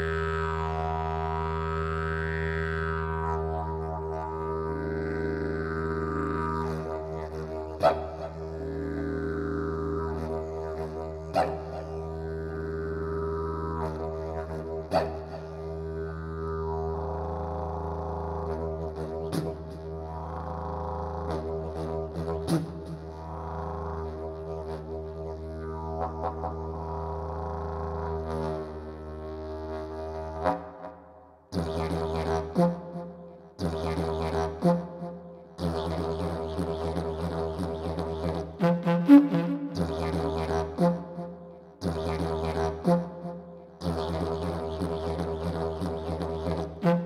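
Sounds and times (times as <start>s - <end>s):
didgeridoo droning: 0.0s - 47.0s.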